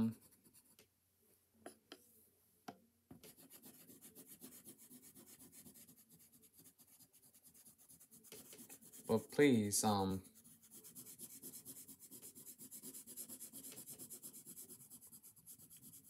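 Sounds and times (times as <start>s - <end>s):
pencil scratching on paper: 0.0s - 0.8s, 3.2s - 16.0s.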